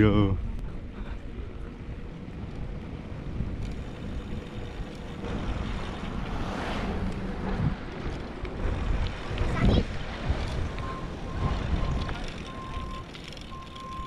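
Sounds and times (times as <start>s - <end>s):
wind rushing over microphone: 0.0s - 13.0s
road rumble: 0.0s - 14.0s.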